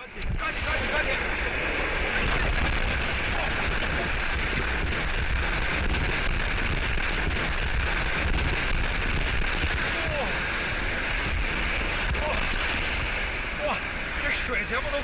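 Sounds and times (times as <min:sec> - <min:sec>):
whitewater rapids roaring: 0:00.0 - 0:15.0.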